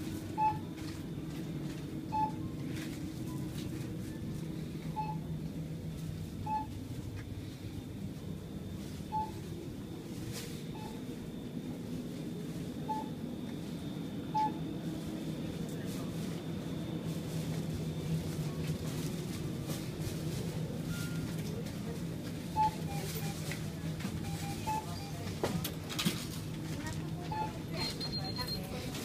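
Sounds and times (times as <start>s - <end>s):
low shop hum: 0.0s - 29.0s
checkout scanner beeps: 0.1s - 29.0s.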